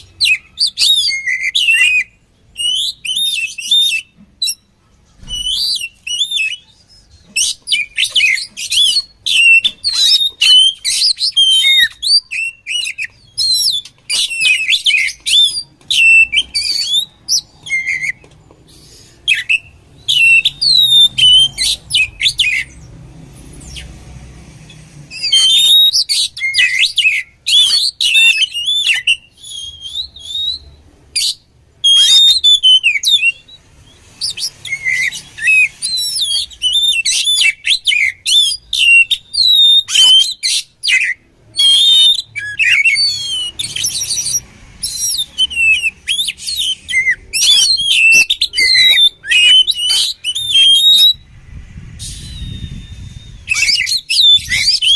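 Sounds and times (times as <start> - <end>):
bird singing whistles and chatter: 0.0 - 23.0, 24.6 - 54.9.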